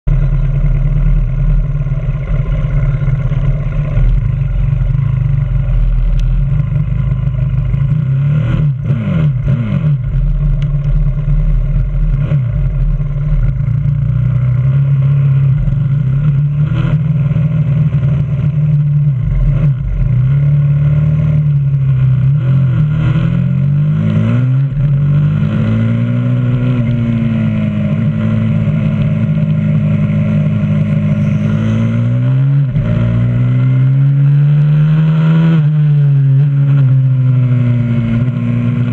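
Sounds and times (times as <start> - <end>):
motorbike engine revving: 0.1 - 38.9.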